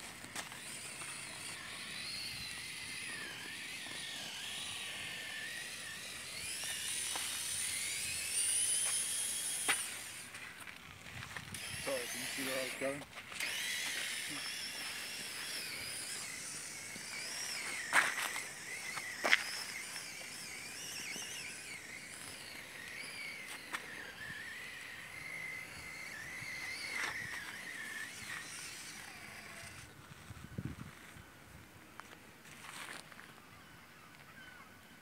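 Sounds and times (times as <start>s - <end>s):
toy car motor whining: 0.0s - 31.3s.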